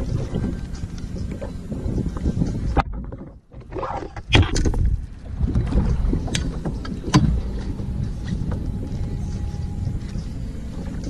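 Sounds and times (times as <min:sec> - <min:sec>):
water slapping against kayak: 0:00.0 - 0:09.4
wind rumbling on microphone: 0:00.0 - 0:11.0.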